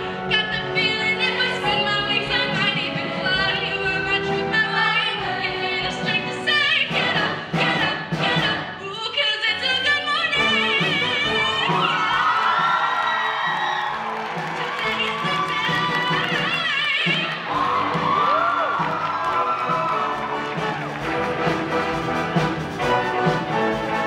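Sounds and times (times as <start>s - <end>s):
musical accompaniment: 0.0s - 24.0s.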